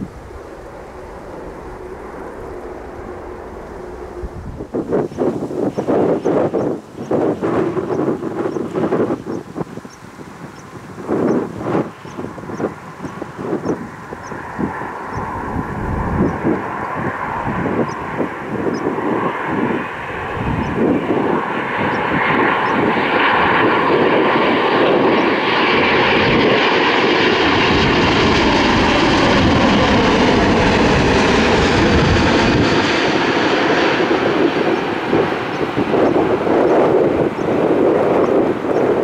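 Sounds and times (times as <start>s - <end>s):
airliner engines whining: 0.0s - 39.0s
wind buffeting microphone: 0.0s - 39.0s.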